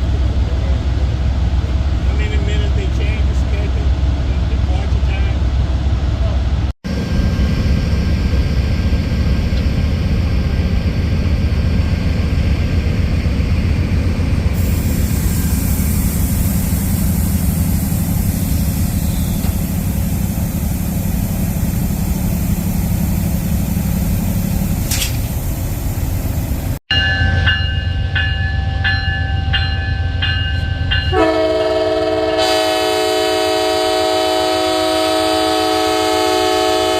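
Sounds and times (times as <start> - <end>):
diesel locomotive engine idling: 0.0 - 35.0.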